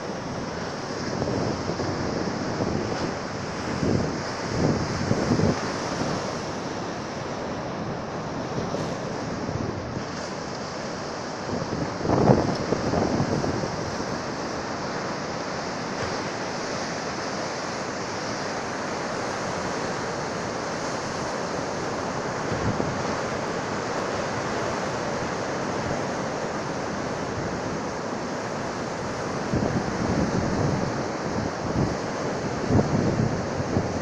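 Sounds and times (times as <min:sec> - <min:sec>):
waves breaking on beach: 0:00.0 - 0:34.0.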